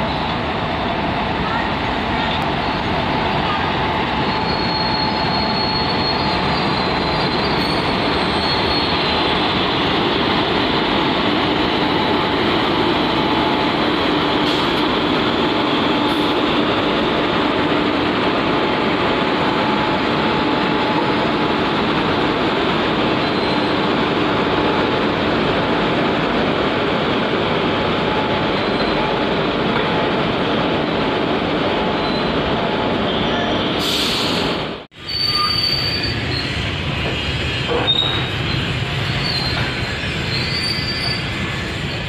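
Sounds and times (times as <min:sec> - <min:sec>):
freight train running on rails: 0:00.0 - 0:42.0.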